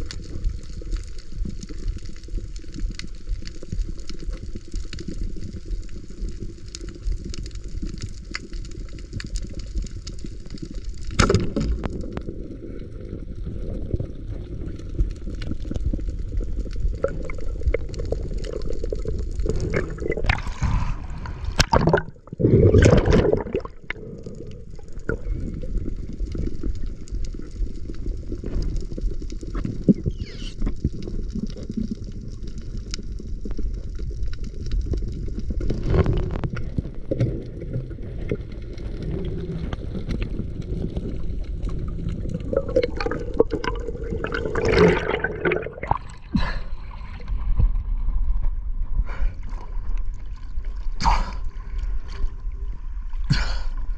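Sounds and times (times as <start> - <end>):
rush of water and bubbles: 0.0 - 53.9
underwater water rush: 0.0 - 53.9.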